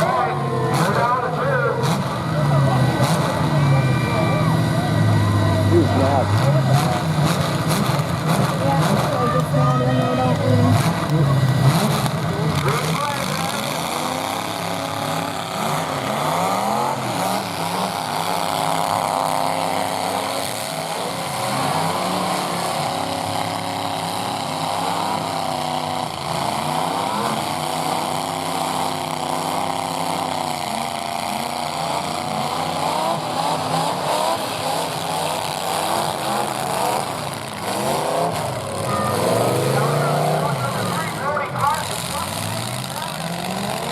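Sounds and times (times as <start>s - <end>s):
pickup truck engines revving: 0.0s - 43.9s.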